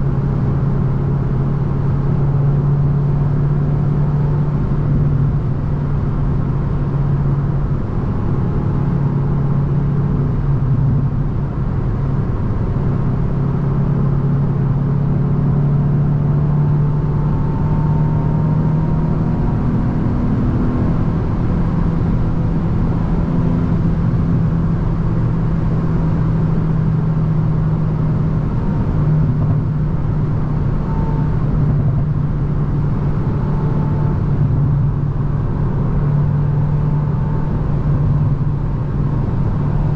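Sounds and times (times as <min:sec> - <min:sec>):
car engine drone: 0:00.0 - 0:39.9
road and tyre noise: 0:00.0 - 0:39.9.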